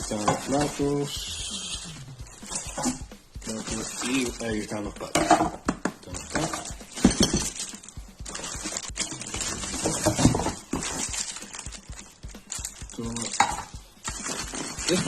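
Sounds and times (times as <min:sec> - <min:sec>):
packaging rustling: 0:00.0 - 0:01.1, 0:02.3 - 0:04.8, 0:06.1 - 0:15.0
drum kit parts clattering: 0:00.0 - 0:15.0.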